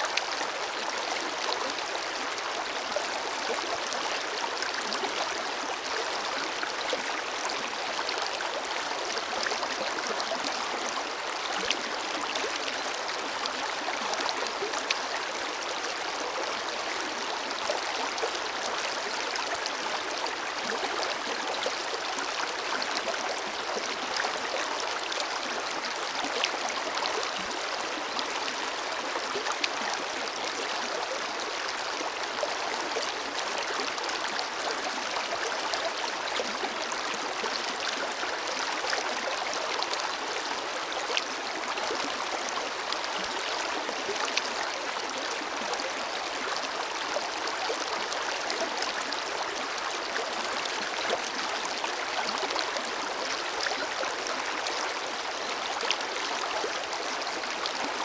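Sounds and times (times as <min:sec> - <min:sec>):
river flowing over stones: 0:00.0 - 0:58.0.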